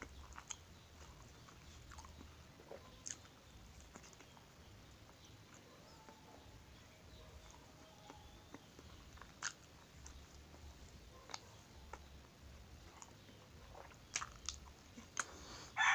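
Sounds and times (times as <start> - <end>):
wet smacks and clicks: 0.0 - 5.7, 7.4 - 15.4
person chewing soft bread: 0.0 - 15.9.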